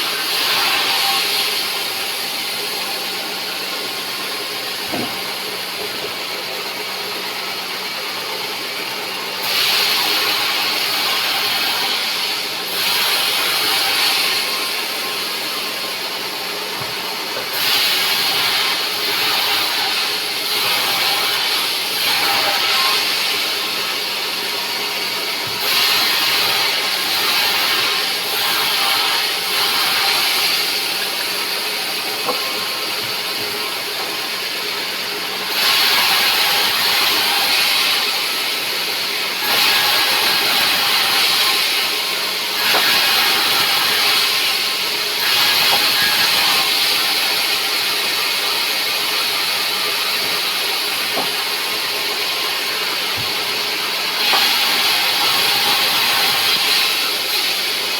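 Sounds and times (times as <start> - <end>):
saw blade cutting wood: 0.0 - 6.2, 9.4 - 57.9
sawmill saw motor hum: 0.0 - 57.9.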